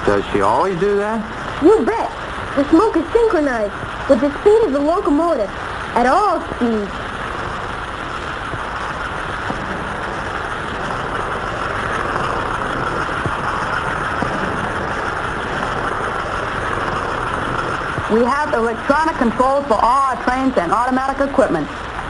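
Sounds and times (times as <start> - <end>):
model train rumbling whir: 0.0 - 22.0.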